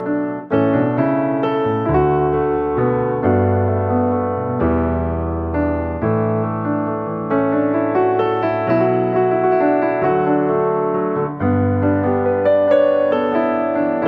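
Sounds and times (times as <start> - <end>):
piano chords over bass line: 0.0 - 14.0.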